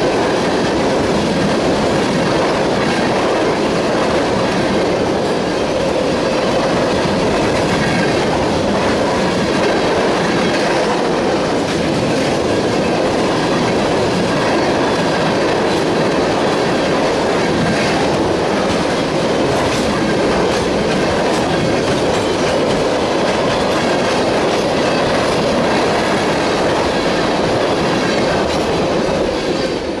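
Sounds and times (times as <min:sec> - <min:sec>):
train wheels rumbling on track: 0:00.0 - 0:30.0
wheels clicking over rail joints: 0:00.0 - 0:30.0.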